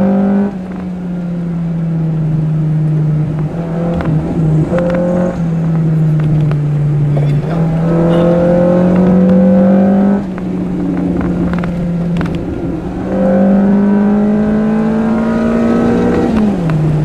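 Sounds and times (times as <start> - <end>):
car engine pulling under throttle: 0.0 - 17.0
road and tyre noise: 0.0 - 17.0.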